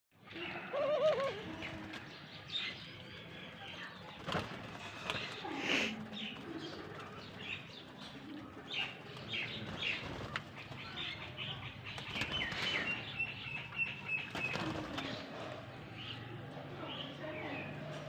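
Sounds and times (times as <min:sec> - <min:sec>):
doves flapping wings: 0:00.8 - 0:15.8.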